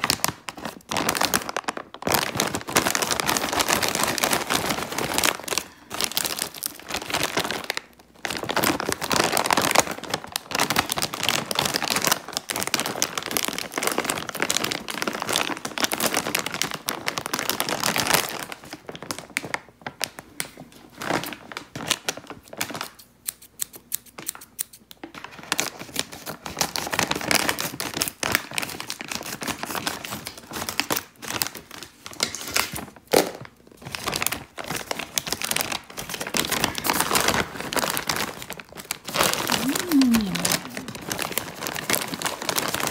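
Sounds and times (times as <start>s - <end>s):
snack bag crinkling: 0.0s - 20.2s, 21.0s - 42.9s.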